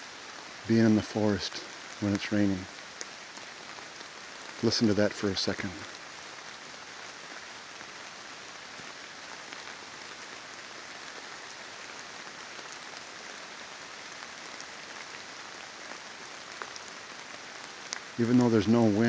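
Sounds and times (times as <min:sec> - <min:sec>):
rain pattering on leaves: 0:00.0 - 0:19.0.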